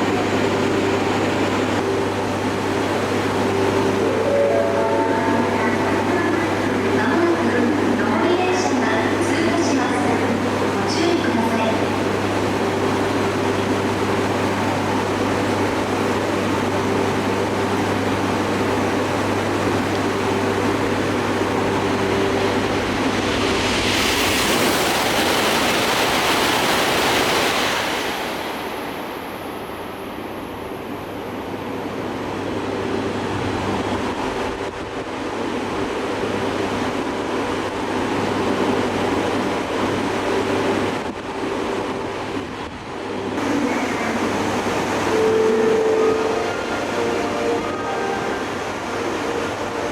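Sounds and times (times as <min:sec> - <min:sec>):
steady low hum: 0:00.0 - 0:49.9
train passing with rushing roar: 0:00.0 - 0:49.9.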